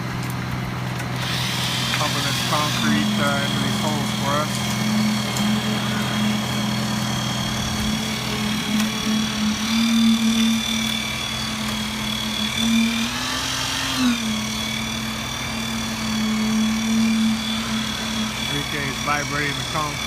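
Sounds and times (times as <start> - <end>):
concrete pump truck engine hum: 0.0 - 20.0.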